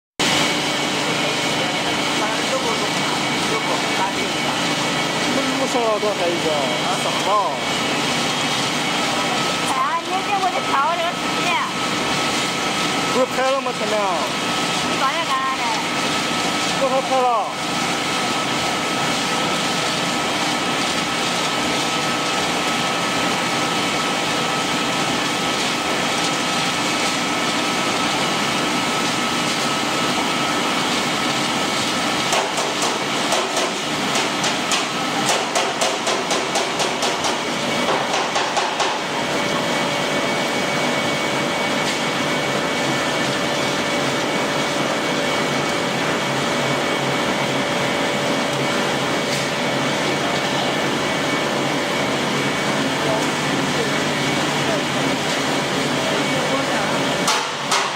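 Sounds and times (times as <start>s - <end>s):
pellet mill humming: 0.2s - 57.9s.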